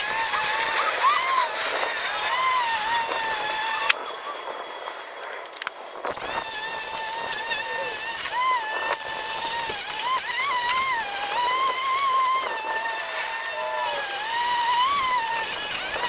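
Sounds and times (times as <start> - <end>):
electric lawn mower whine: 0.0 - 16.0.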